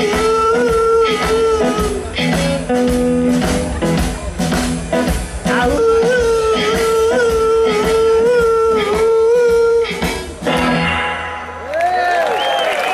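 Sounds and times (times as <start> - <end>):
blues band playing: 0.0 - 12.2.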